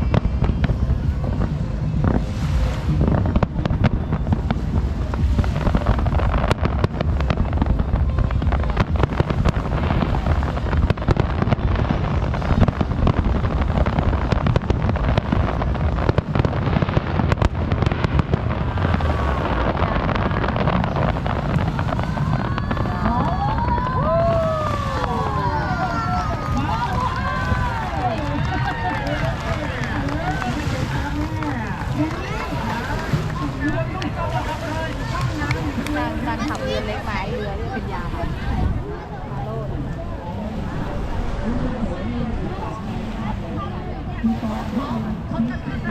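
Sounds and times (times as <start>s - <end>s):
fireworks bangs and crackles: 0.0s - 45.9s
low rumble: 0.0s - 45.9s.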